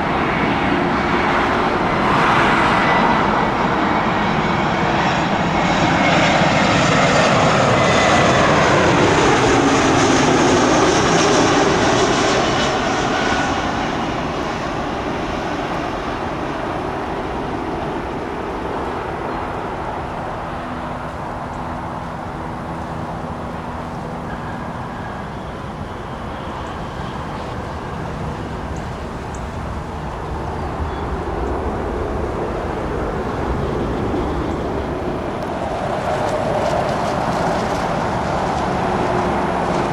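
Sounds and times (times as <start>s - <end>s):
jet airliner engines passing: 0.0s - 39.9s.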